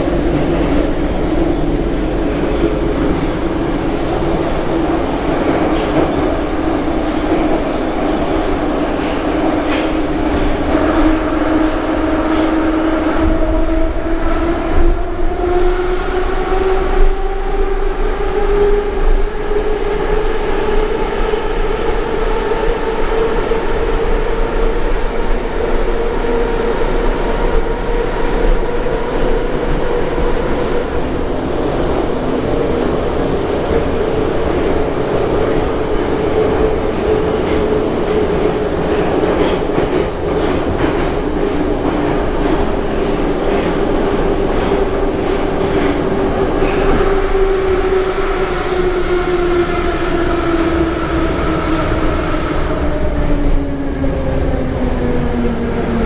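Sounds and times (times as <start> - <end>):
train rumble and rattle: 0.0 - 56.0.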